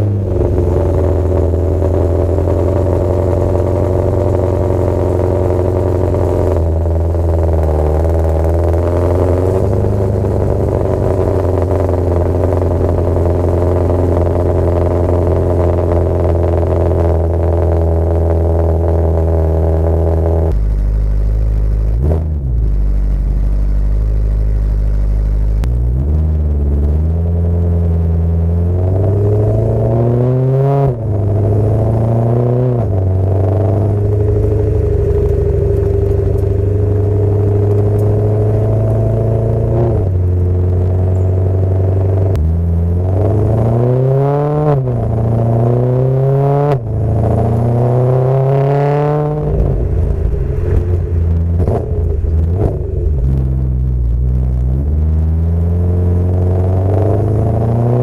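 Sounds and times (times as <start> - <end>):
exhaust crackling pops: 0.0 - 29.0, 32.6 - 43.7, 46.6 - 58.0
car engine idling and revving: 0.0 - 58.0.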